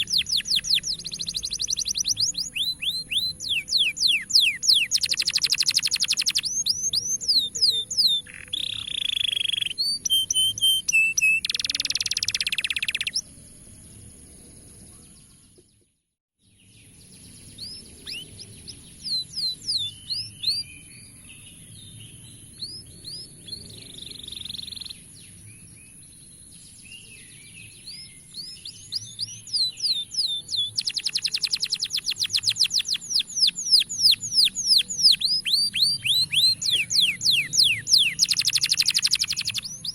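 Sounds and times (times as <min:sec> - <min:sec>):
canary singing trills: 0:00.0 - 0:15.6, 0:16.6 - 0:39.9.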